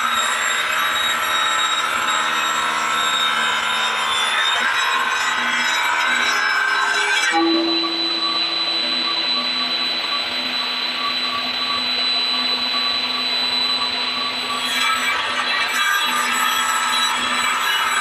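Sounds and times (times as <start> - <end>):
table saw cutting log: 0.0 - 18.0.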